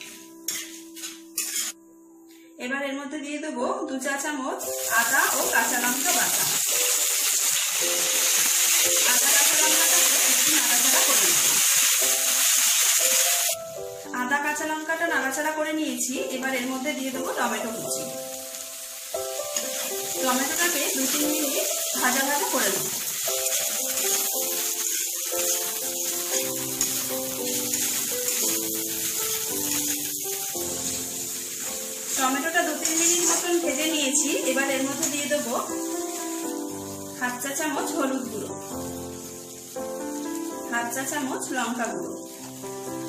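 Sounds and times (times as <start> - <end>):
faint background music: 0.0 - 43.0
paste sizzling in hot oil: 0.5 - 1.8, 4.6 - 13.8, 15.3 - 43.0.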